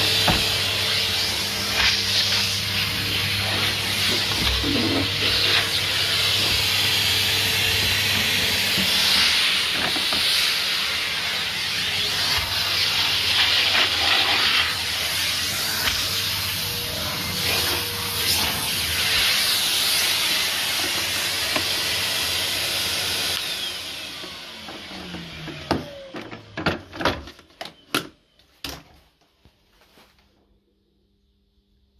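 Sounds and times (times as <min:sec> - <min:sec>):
vacuum cleaner suction hissing: 0:00.0 - 0:26.3.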